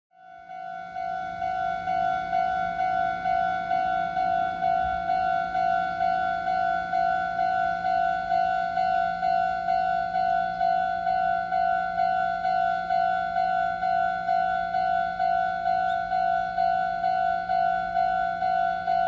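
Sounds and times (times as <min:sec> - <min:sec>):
level crossing warning bell: 0:00.2 - 0:19.0.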